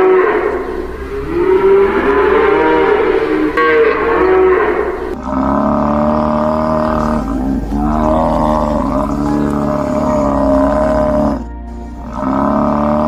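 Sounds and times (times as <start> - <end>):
cattle mooing: 0.0 - 13.0
steadier animal call: 0.0 - 13.0.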